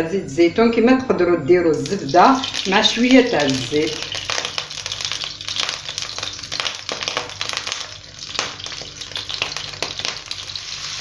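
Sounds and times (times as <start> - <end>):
oil being poured: 1.8 - 11.0
oil crackling and sizzling in pan: 1.8 - 11.0.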